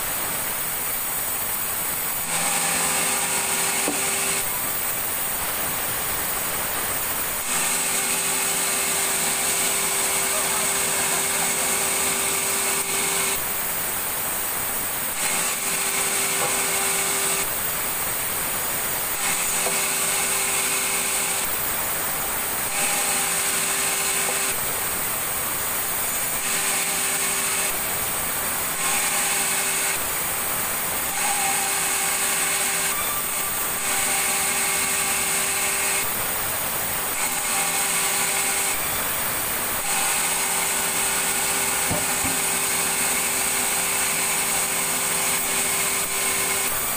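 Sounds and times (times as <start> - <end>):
sawmill saw cutting timber: 0.0 - 46.9.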